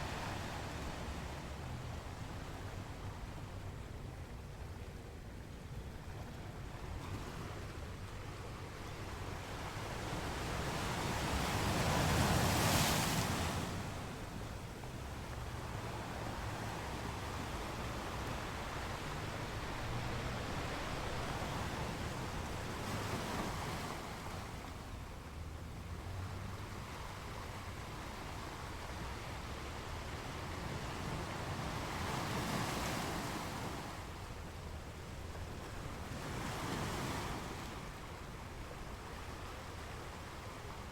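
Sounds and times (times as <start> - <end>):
ocean waves breaking on shore: 0.0 - 4.3, 6.0 - 40.9.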